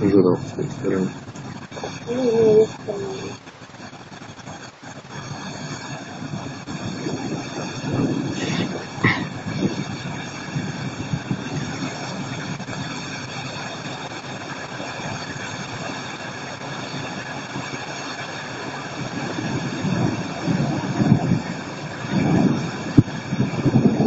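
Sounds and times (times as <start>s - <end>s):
distant thunder rumble: 0.0s - 24.0s
thunderstorm rushing noise: 0.0s - 24.0s.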